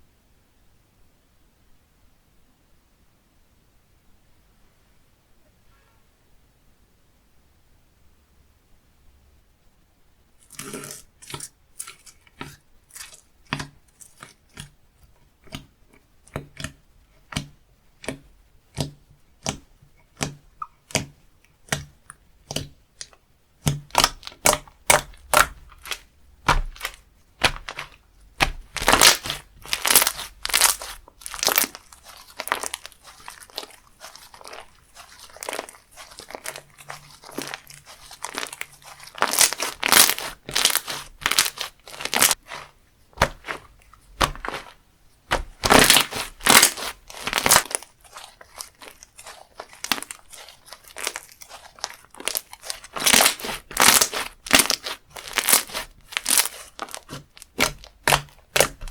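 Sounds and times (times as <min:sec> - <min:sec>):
slime crackling and popping: 0:10.4 - 0:58.9.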